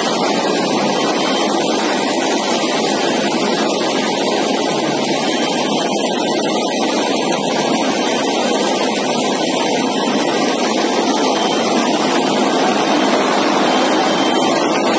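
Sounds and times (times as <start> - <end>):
production line machinery running: 0.0 - 14.9.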